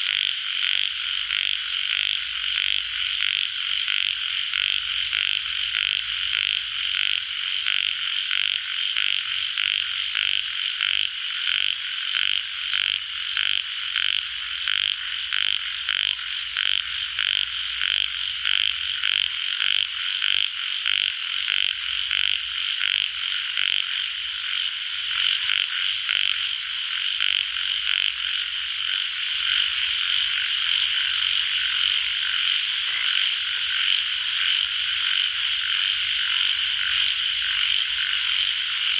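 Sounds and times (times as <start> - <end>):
chorus of frogs croaking: 0.0 - 38.9.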